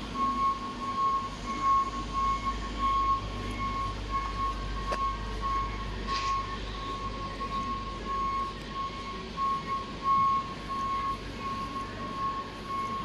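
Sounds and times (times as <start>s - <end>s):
reversing alarm beeping: 0.0s - 13.0s.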